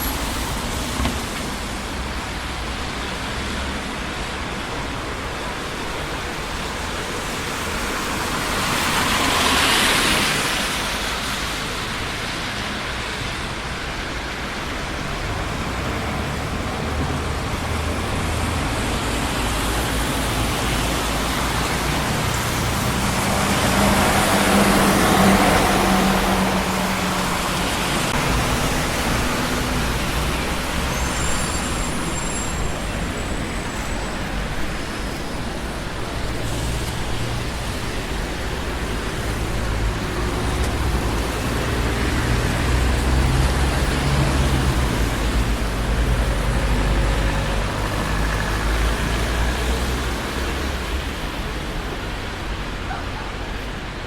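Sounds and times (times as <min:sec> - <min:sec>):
car and tyre noise: 0:00.0 - 0:54.0
vehicles passing close by: 0:00.0 - 0:54.0.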